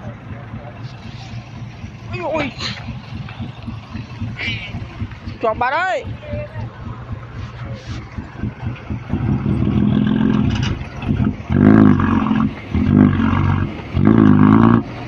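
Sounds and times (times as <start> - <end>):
truck diesel engine revving: 0.0 - 15.0.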